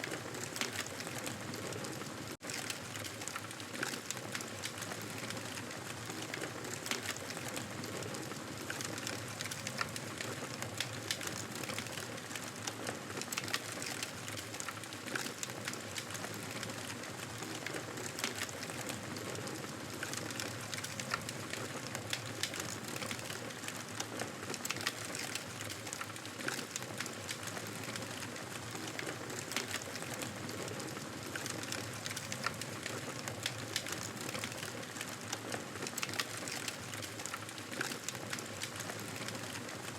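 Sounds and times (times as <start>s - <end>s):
wood campfire crackling: 0.0s - 39.9s.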